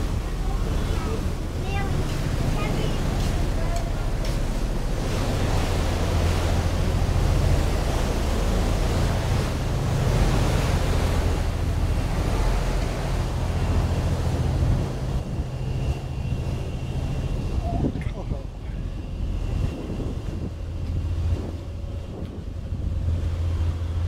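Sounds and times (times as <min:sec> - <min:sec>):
rushing water: 0:00.0 - 0:24.0
ship engines droning: 0:00.0 - 0:24.0
wind buffeting microphone: 0:00.0 - 0:24.0.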